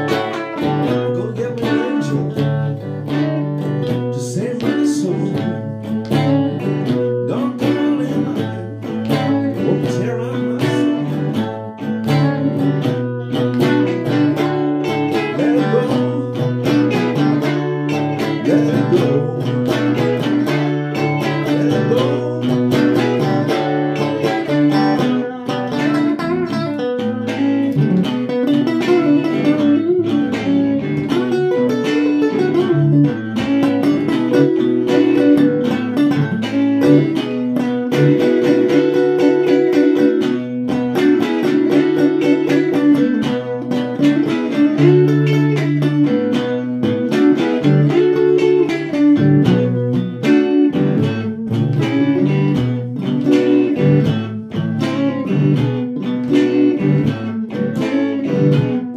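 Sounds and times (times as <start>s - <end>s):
guitars playing plucked notes: 0.0s - 58.9s.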